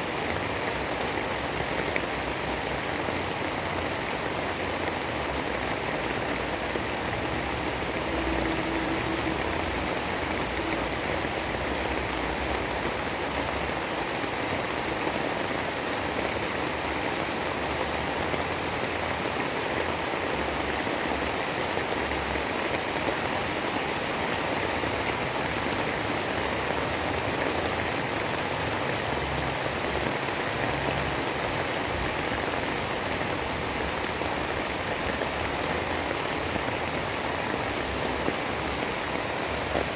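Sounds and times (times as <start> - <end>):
heavy rain rush: 0.0 - 39.9.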